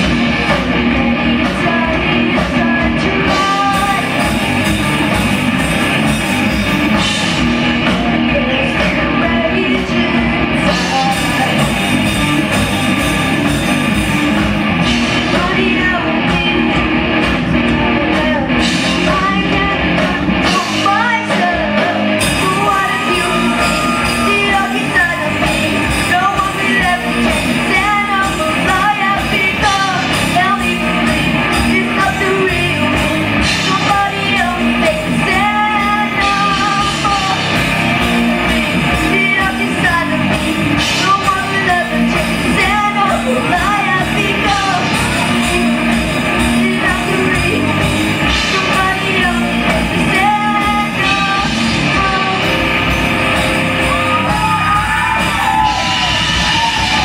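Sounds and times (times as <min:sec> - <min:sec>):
person singing: 0:00.0 - 0:13.6, 0:14.3 - 0:57.0
bass guitar: 0:00.0 - 0:57.0
drums: 0:00.0 - 0:57.0
electric guitar: 0:00.0 - 0:57.0.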